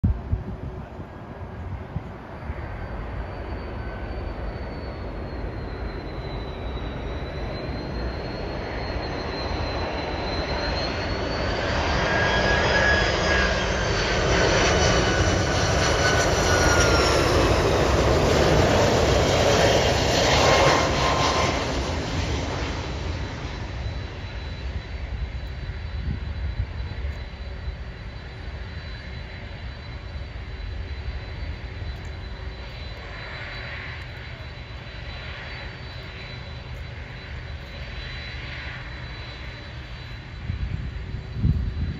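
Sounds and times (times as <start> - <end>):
jet plane engines landing: 0.0 - 41.9.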